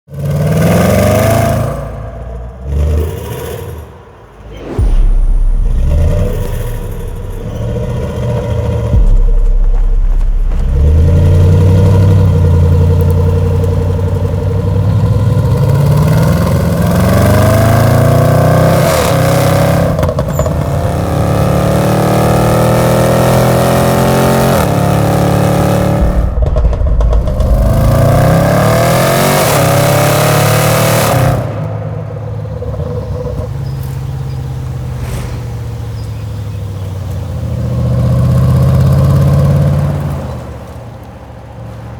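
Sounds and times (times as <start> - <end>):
car engine accelerating hard: 0.1 - 41.9.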